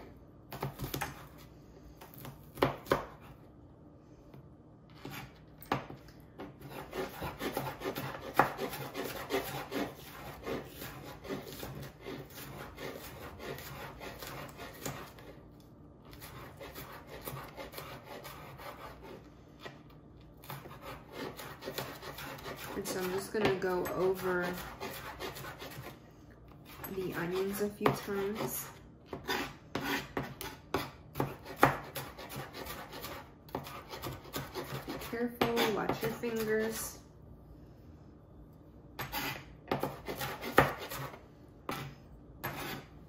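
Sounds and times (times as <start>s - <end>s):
knife slicing onion: 0.0s - 3.4s, 4.9s - 36.9s, 39.0s - 43.0s.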